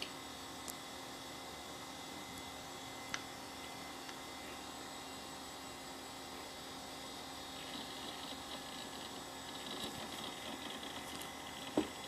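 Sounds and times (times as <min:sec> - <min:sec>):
desktop computer hum and hiss: 0:00.0 - 0:12.0.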